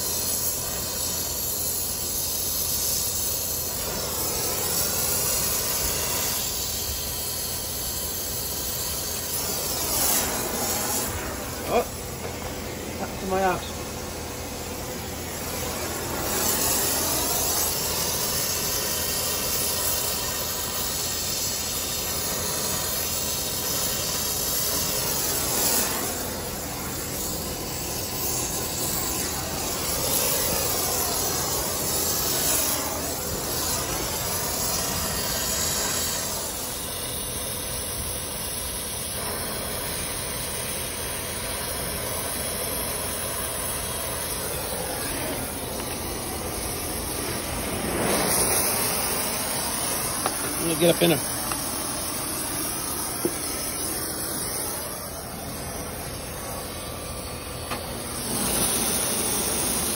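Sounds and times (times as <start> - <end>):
torch flame hissing: 0.0 - 59.9.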